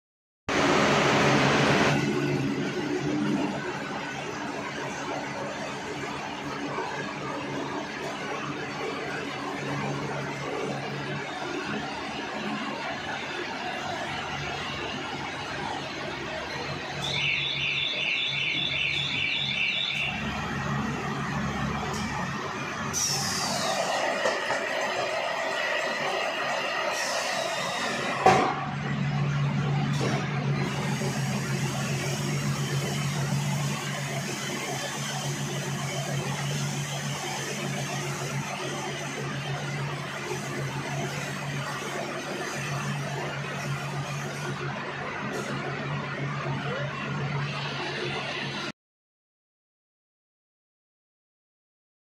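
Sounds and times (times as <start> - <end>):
warbling warning siren: 1.9 - 28.2, 28.8 - 48.7.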